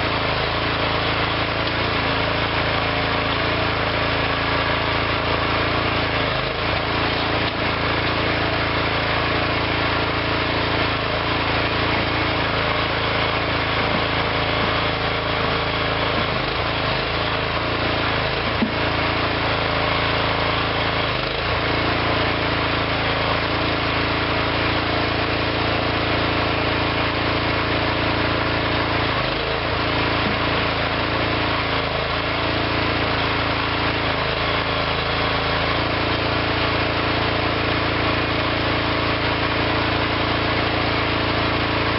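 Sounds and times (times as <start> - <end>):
backhoe engine running: 0.0 - 41.9.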